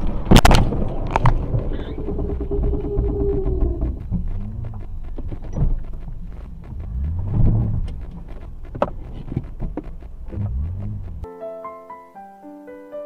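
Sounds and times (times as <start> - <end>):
knocks and clicks: 0.0 - 11.3
vehicle rumbling in motion: 0.0 - 11.3.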